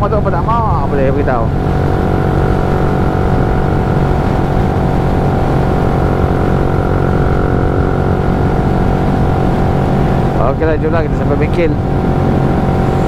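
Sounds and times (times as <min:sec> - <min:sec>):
moped engine running steadily: 0:00.0 - 0:13.0.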